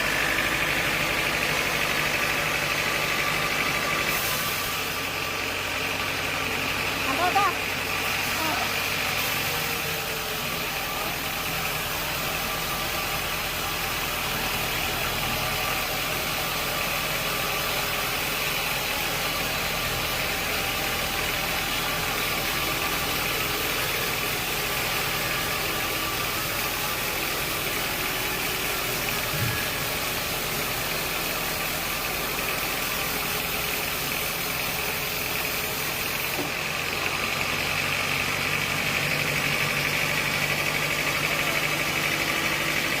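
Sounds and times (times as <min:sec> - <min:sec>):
sawmill machinery humming: 0:00.0 - 0:43.0.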